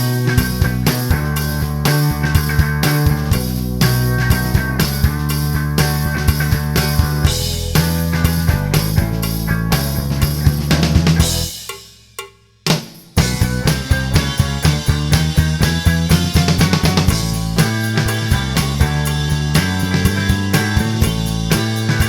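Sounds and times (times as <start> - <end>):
rock music: 0.0 - 11.7, 13.2 - 22.0.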